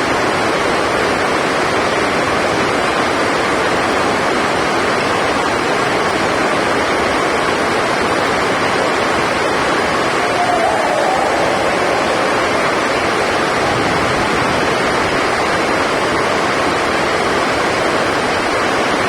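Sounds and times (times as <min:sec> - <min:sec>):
heavy rain drumming on a roof: 0:00.0 - 0:19.0.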